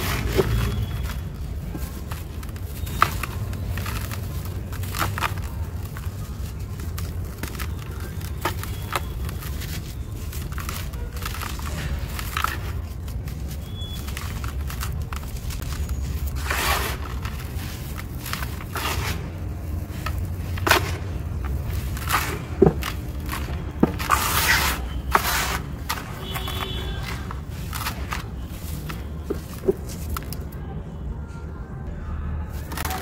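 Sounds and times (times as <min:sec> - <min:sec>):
hands crumbling dry cement mix: 0:00.0 - 0:30.6.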